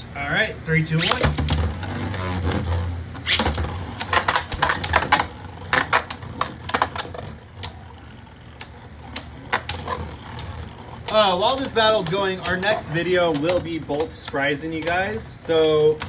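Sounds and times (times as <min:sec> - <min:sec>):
spinning tops clacking: 0:00.9 - 0:16.0.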